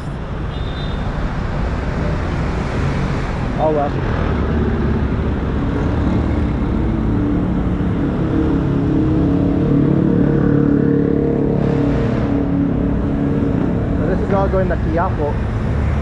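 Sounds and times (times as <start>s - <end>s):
steady engine drone: 1.3s - 16.0s.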